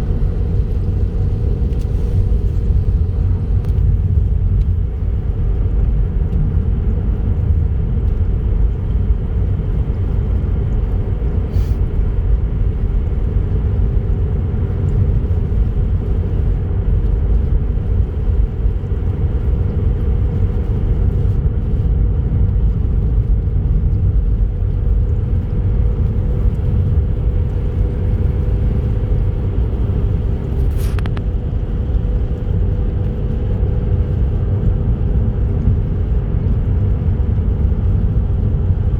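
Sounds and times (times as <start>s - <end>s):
car tyres and engine rumble: 0.0s - 38.9s.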